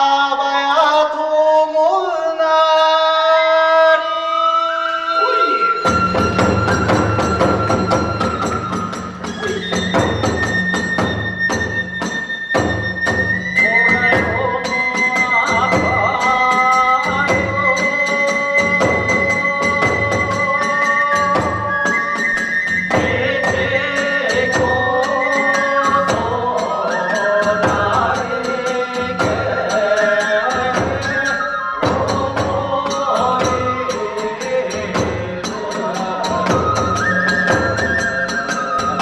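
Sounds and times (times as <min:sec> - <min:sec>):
bamboo flute melody: 0:03.1 - 0:39.0
taiko drum beats: 0:05.8 - 0:39.0.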